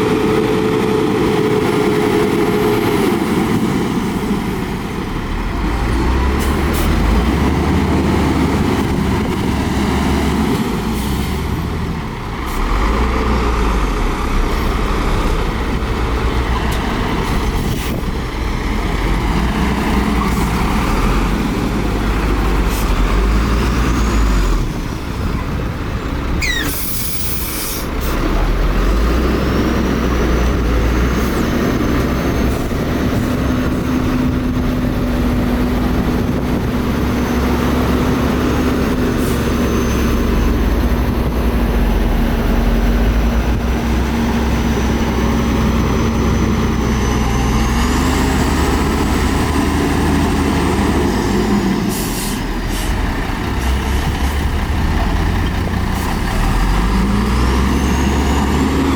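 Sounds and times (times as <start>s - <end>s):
heavy diesel machinery engines: 0.0s - 58.9s.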